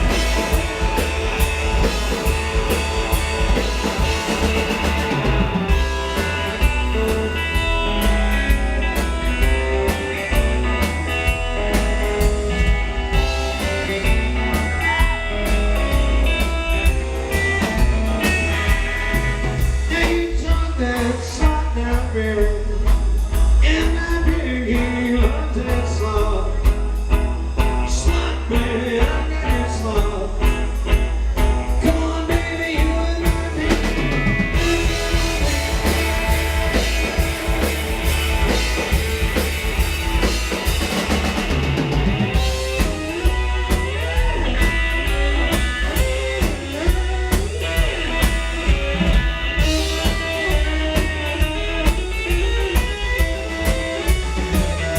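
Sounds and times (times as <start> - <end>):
drum kit: 0.0 - 54.9
electric guitar: 0.0 - 54.9
rockabilly band playing: 0.0 - 54.9
upright bass: 0.0 - 54.9.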